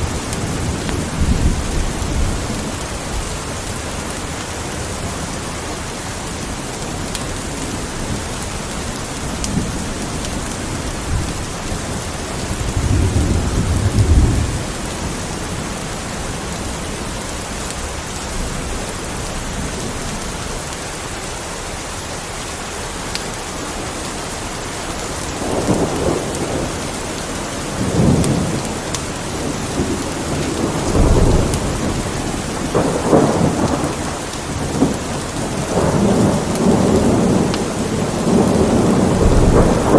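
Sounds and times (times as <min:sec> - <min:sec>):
thunder rumbling: 0:00.0 - 0:05.6, 0:06.5 - 0:20.6, 0:24.8 - 0:39.9
heavy rain: 0:00.0 - 0:39.9.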